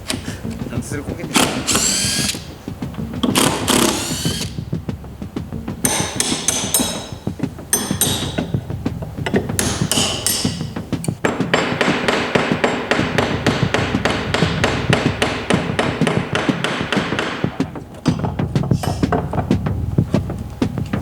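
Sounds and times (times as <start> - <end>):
hammer blows on wood: 0.0 - 21.0.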